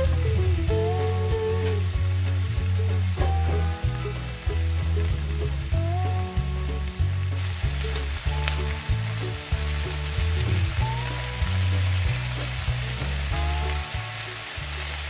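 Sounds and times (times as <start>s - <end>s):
music with bass line: 0.0s - 15.0s
vegetables sizzling in a pan: 0.0s - 15.0s.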